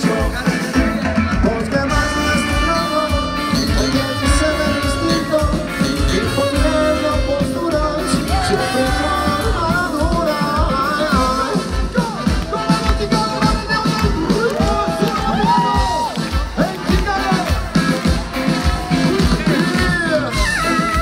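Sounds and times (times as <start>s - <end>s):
person singing: 0.0s - 17.5s
ska-rock band playing live: 0.0s - 21.0s.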